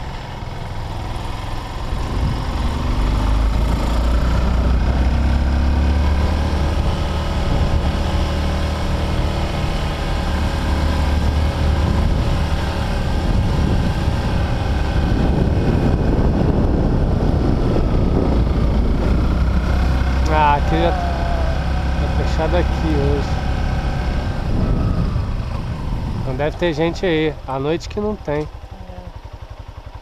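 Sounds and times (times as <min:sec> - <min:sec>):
motorcycle engine running: 0:00.0 - 0:30.0
road noise: 0:00.0 - 0:30.0
wind rumble on microphone: 0:01.7 - 0:28.4.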